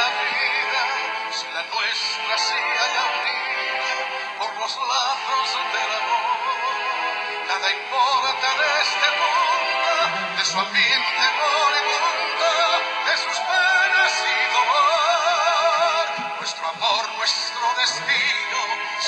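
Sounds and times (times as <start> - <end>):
slow song with vibrato melody: 0.0 - 19.0.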